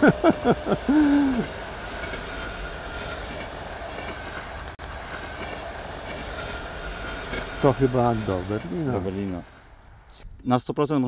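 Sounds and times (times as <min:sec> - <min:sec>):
faint wheel hum: 0:00.0 - 0:10.4
train wheels rumbling on rail: 0:00.0 - 0:10.5.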